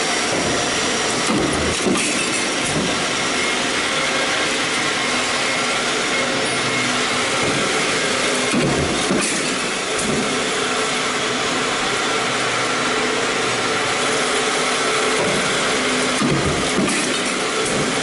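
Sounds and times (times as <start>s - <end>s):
shop machinery drone: 0.0s - 18.0s.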